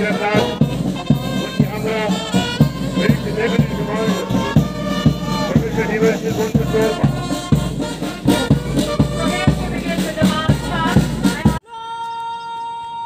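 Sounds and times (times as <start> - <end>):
bass drum marching beat: 0.0 - 11.6
marching band playing march: 0.0 - 11.6.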